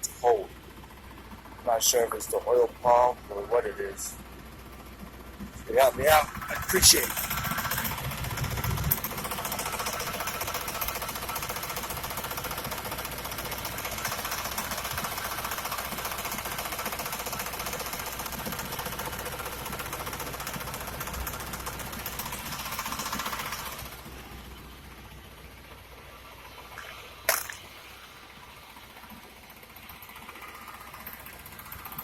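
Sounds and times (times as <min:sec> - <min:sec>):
car engine running: 0:00.0 - 0:32.0
rapid ticking under car: 0:00.1 - 0:27.8.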